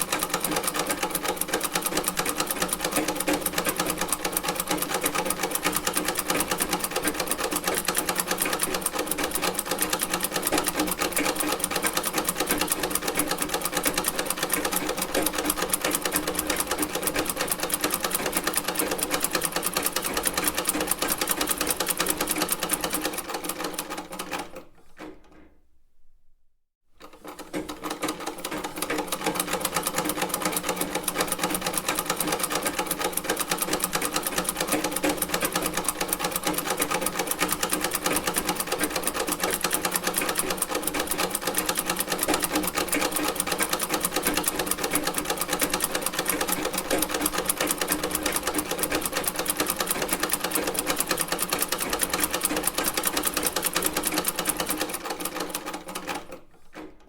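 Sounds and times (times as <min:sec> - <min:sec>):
sewing machine clattering: 0:00.0 - 0:25.6, 0:27.0 - 0:57.0.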